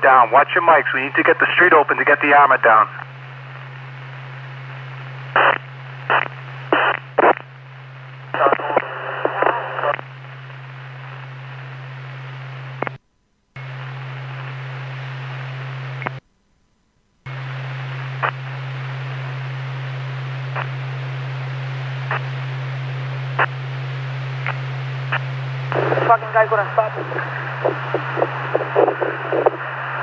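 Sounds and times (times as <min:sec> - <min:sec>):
radio static hiss: 0:00.0 - 0:13.0, 0:13.6 - 0:16.2, 0:17.3 - 0:30.0
low hum: 0:03.1 - 0:30.0.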